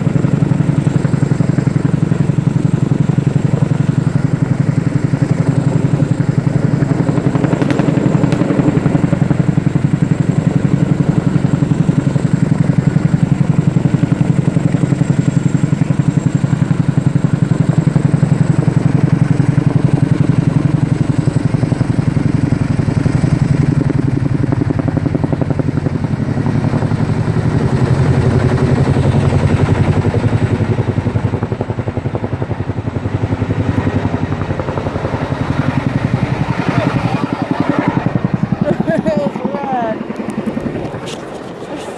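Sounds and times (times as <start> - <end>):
helicopter rotor beating: 0.0 - 41.9.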